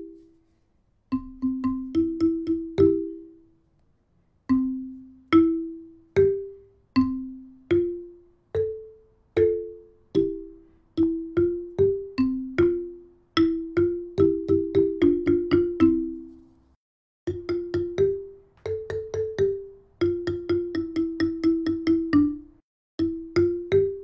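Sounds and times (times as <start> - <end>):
mallet percussion melody: 1.1 - 3.4, 4.5 - 16.5, 17.3 - 24.0.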